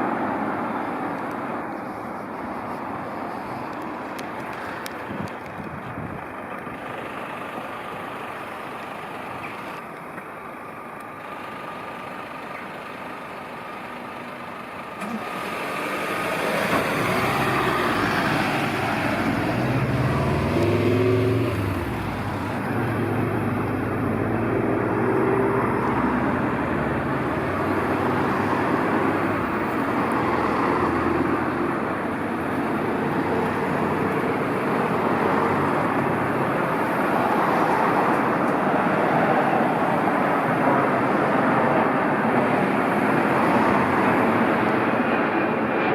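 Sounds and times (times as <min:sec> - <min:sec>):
engine hum: 0:00.0 - 0:45.9
vehicles driving past: 0:00.0 - 0:45.9.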